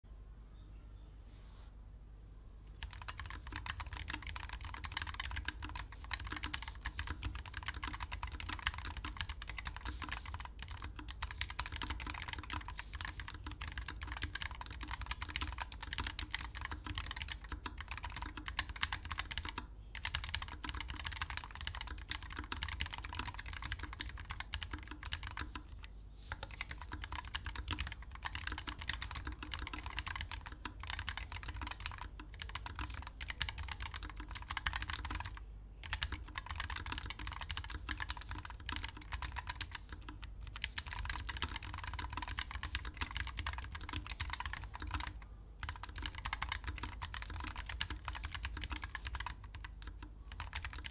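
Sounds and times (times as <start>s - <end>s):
fast typing on keyboard: 2.8s - 50.9s.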